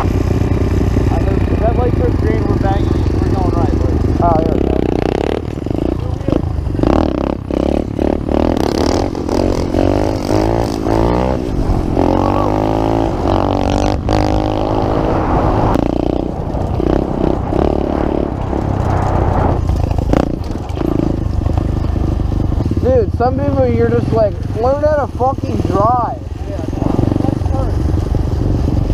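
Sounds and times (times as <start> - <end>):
pit bike engines revving: 0.0 - 28.9.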